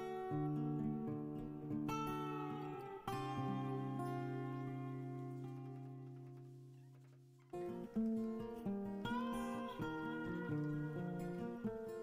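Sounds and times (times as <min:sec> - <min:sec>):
acoustic guitar chord ringing: 0:00.0 - 0:12.0.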